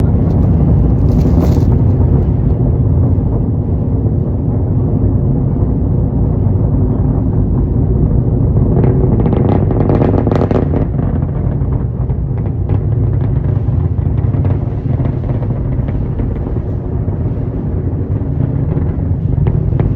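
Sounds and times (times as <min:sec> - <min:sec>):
rocket engine crackle: 0:00.0 - 0:19.9
rocket engines rumbling: 0:00.0 - 0:19.9.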